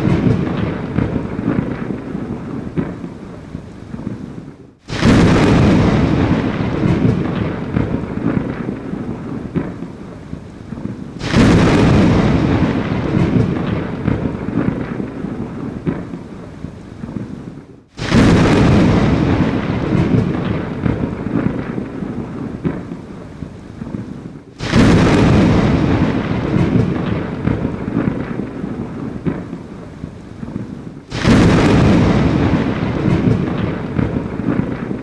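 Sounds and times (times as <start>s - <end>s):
thunder cracks rumbling: 0.0s - 4.2s, 4.9s - 35.0s
rain hiss: 2.5s - 35.0s.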